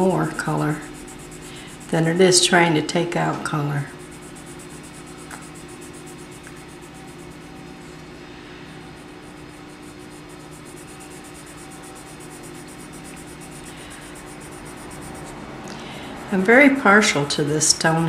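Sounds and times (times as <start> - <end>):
machine-like room hum and hiss: 0.0 - 18.0.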